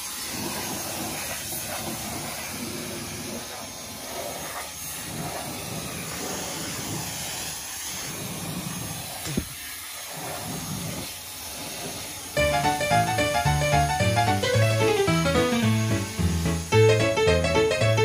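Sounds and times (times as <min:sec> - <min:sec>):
pressure washer spraying water: 0:00.0 - 0:18.0.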